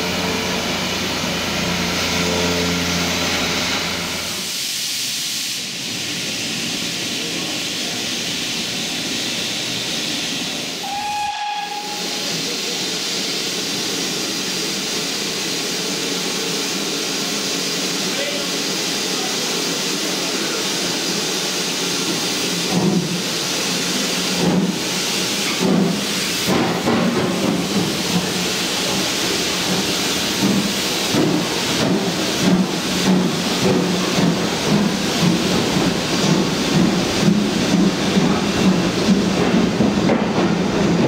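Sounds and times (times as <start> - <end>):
steam locomotive hissing: 0.0 - 41.0.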